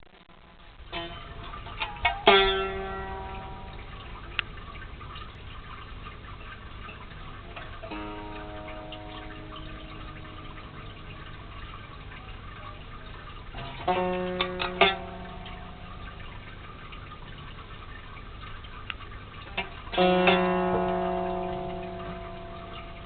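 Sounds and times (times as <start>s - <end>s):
sitar strings plucked: 0.9s - 5.3s, 7.4s - 18.0s, 19.4s - 23.0s.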